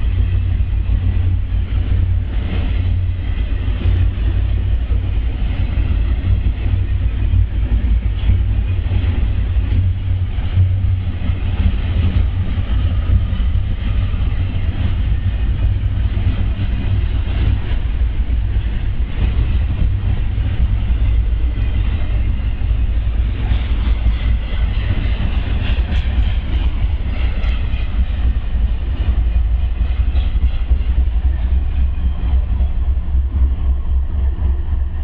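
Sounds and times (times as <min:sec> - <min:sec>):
freight train rumbling past: 0:00.0 - 0:35.0.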